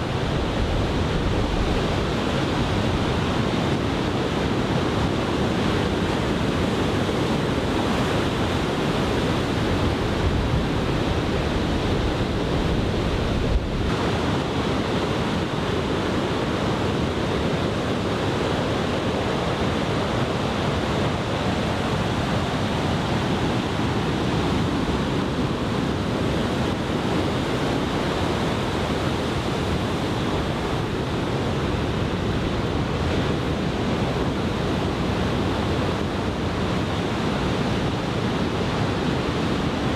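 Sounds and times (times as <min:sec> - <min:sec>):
wind on microphone: 0:00.0 - 0:18.9, 0:19.6 - 0:39.9
surf breaking and washing: 0:00.0 - 0:39.9.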